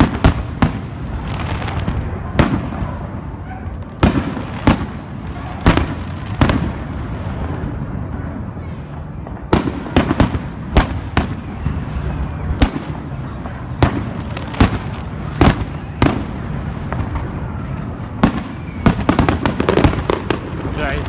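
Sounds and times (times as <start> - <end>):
distant fireworks rumble: 0.0 - 21.0
fireworks bangs: 0.0 - 21.0.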